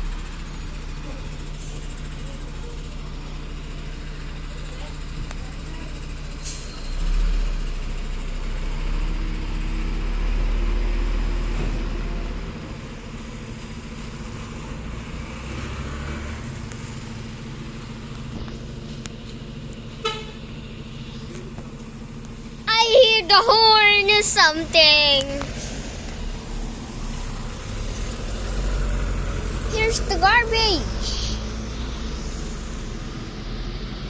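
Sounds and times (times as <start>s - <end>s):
garbage truck engine rumbling: 0.0s - 34.0s.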